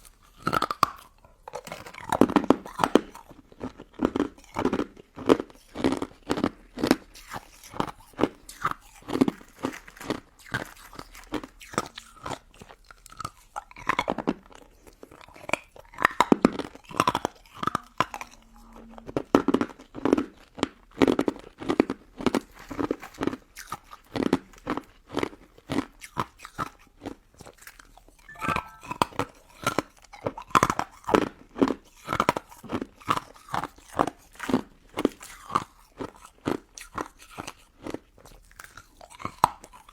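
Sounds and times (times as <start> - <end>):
crunchy chewing of ice dessert: 0.0 - 28.8, 30.0 - 39.9.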